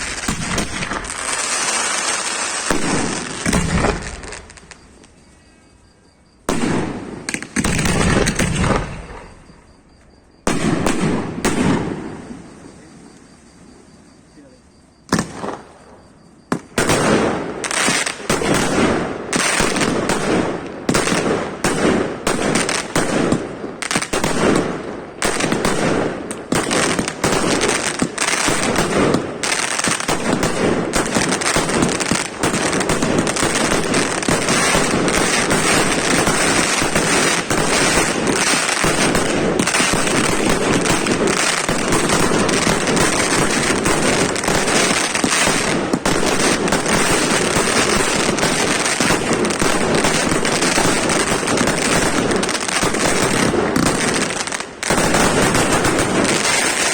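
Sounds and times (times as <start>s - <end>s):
fireworks exploding: 0.0s - 5.3s, 6.4s - 9.6s, 10.4s - 13.3s, 15.1s - 56.9s.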